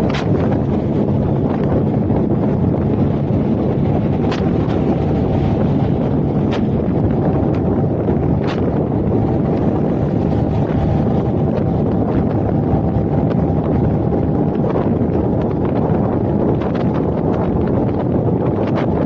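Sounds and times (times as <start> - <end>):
car road rumble: 0.0 - 19.0
wind buffeting microphone: 0.0 - 19.0.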